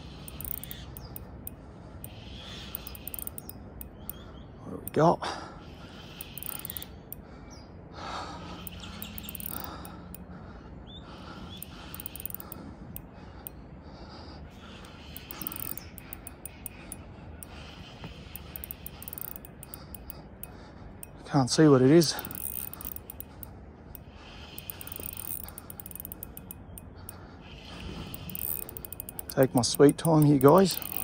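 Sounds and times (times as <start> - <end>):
fishing reel gears clicking: 0.0 - 4.2, 6.0 - 7.2, 8.6 - 10.3, 11.5 - 13.6, 14.7 - 31.0
birds chirping: 0.0 - 31.0.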